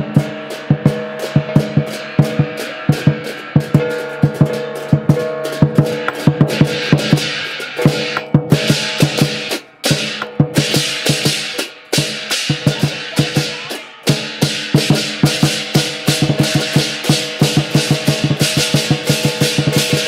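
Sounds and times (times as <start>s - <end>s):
hand cymbals clashing: 0.0s - 20.0s
large drum beaten rapidly: 0.0s - 20.0s.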